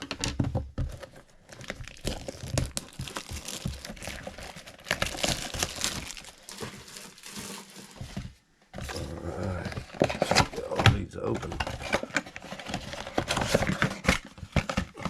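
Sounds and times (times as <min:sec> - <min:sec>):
plastic wrapper crinkling and tearing: 0:00.9 - 0:08.1, 0:08.9 - 0:15.0.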